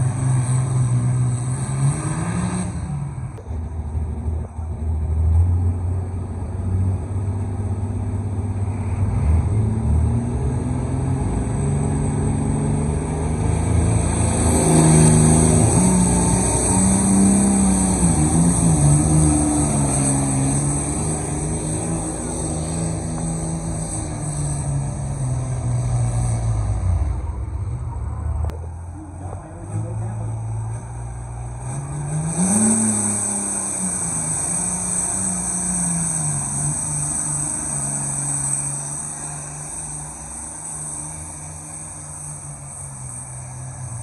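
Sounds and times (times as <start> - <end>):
tractor diesel engine at full throttle: 0.0 - 44.0.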